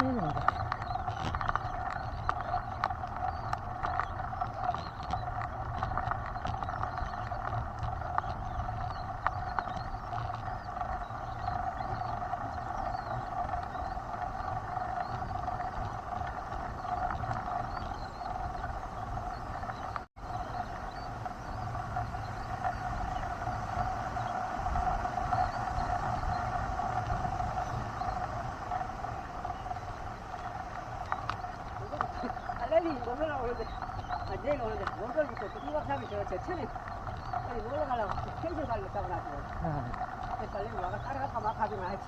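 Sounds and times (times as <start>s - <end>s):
mountain bike tyres humming: 0.0s - 42.0s.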